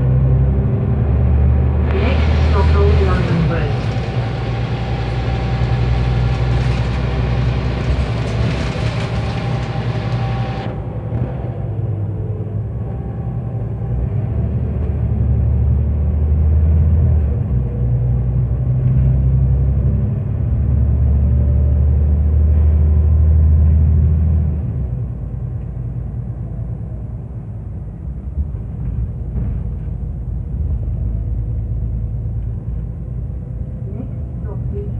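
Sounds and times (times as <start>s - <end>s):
bus engine accelerating: 0.0s - 34.9s.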